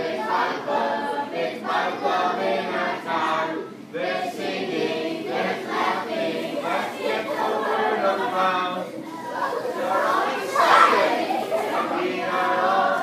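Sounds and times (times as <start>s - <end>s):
group of voices singing: 0.0s - 13.0s.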